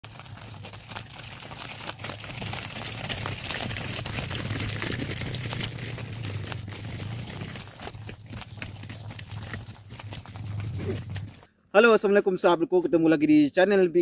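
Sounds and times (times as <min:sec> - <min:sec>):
cattle hooves clattering: 0:00.0 - 0:11.5.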